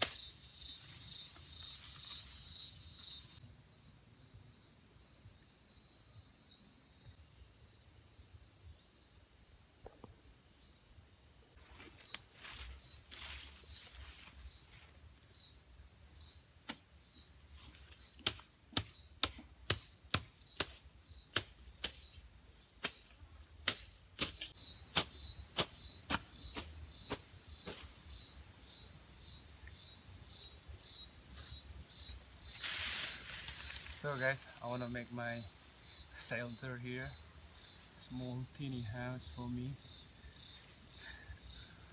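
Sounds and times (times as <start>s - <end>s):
crickets chorus: 0.0s - 41.9s.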